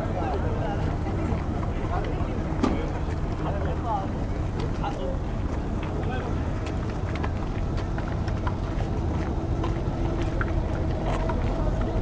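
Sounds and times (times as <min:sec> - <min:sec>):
crowd rumble: 0:00.0 - 0:12.0.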